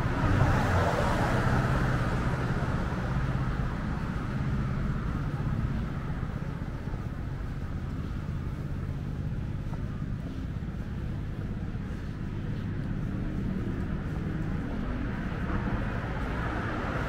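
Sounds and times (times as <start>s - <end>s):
vehicle passing close by: 0.0s - 8.9s, 12.0s - 17.0s
low hum of traffic: 0.0s - 17.0s.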